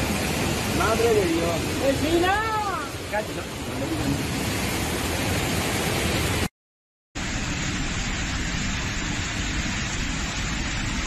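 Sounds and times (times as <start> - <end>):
floodwater rushing: 0.0 - 6.5, 7.2 - 11.0.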